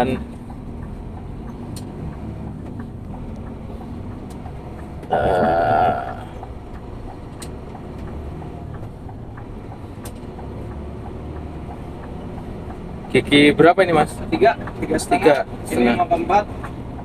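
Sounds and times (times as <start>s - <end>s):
truck diesel engine running: 0.0s - 17.0s.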